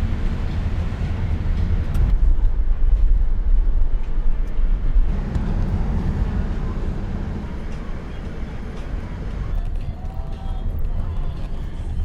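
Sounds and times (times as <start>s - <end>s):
low rumble of moving vehicle: 0.0s - 12.0s.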